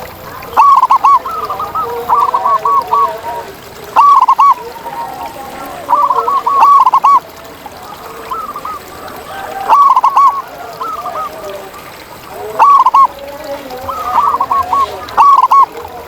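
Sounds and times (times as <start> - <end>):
doves cooing: 0.0 - 16.0
soft low bird calls: 0.0 - 16.0.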